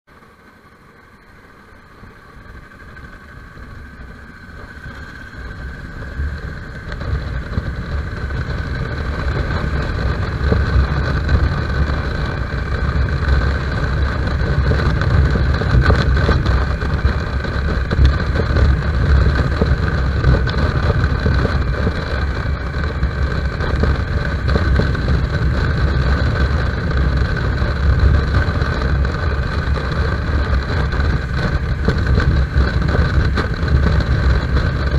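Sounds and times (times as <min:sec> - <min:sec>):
motorcycle engine running: 0:00.1 - 0:34.9
wind rush on microphone: 0:01.6 - 0:34.9.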